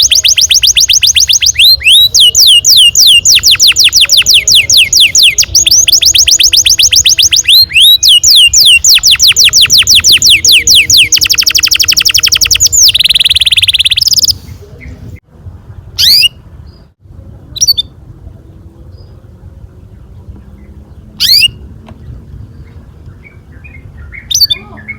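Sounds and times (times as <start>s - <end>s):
canary chirps: 0.0s - 15.1s, 15.9s - 18.0s, 19.8s - 24.9s
canary singing: 0.0s - 15.1s, 16.0s - 18.0s, 18.9s - 24.9s.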